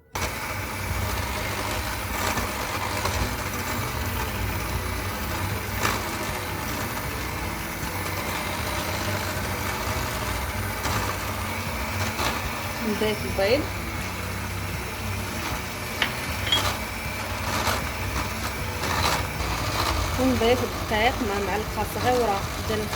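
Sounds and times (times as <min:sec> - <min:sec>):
electric hand mixer running: 0:00.0 - 0:22.9.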